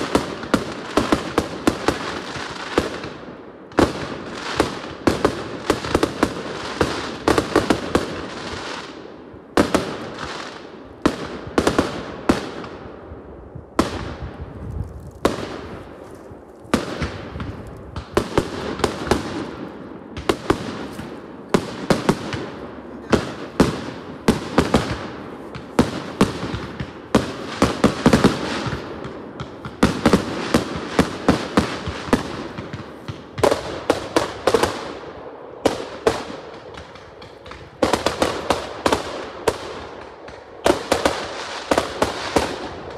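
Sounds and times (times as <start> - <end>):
fireworks bursting: 0.0 - 42.9.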